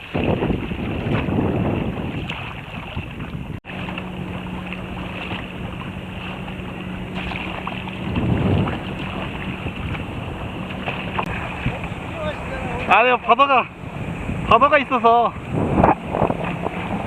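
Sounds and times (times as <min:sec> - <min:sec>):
sea water washing around kayak: 0:00.0 - 0:17.0
wind buffeting microphone: 0:00.0 - 0:17.0.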